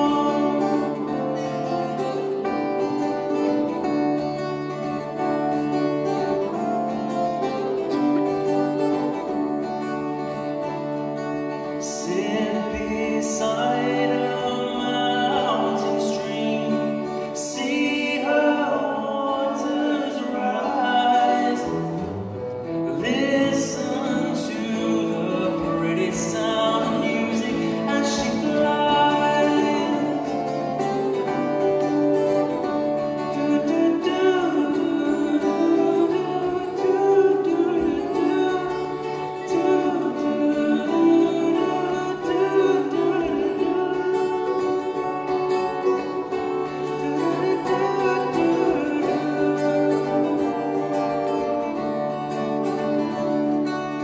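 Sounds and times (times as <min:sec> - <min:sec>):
acoustic guitar: 0:00.0 - 0:54.0
person singing: 0:00.0 - 0:54.0.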